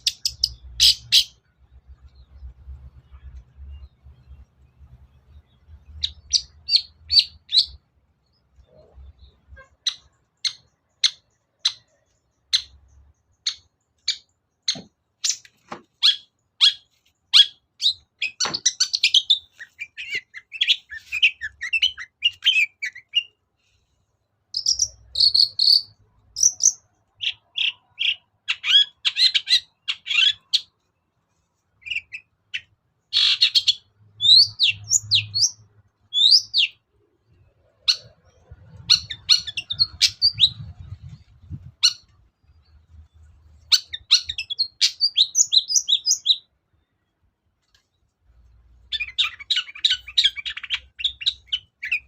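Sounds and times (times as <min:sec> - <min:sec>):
bird chirping and chattering: 0:00.0 - 0:01.5, 0:02.1 - 0:23.4, 0:24.5 - 0:30.7, 0:31.8 - 0:46.5, 0:48.9 - 0:52.0.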